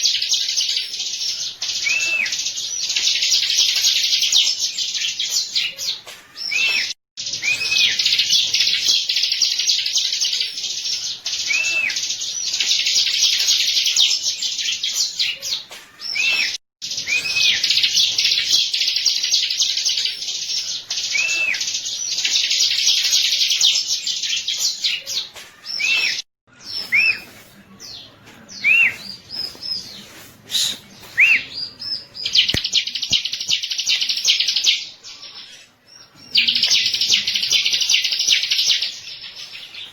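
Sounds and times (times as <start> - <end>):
bird singing shrill chatter: 0.0 - 39.9.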